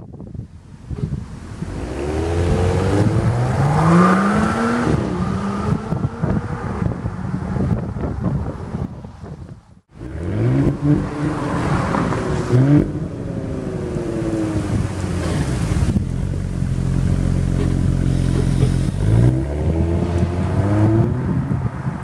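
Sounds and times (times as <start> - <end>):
car engine revving: 1.2 - 7.7, 9.9 - 21.6.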